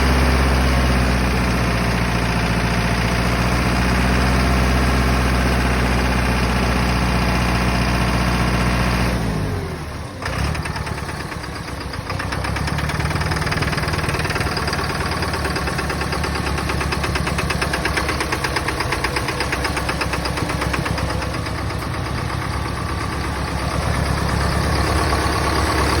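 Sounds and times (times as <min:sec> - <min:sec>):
engine idling: 0:00.0 - 0:26.0
engine knocking: 0:00.0 - 0:26.0.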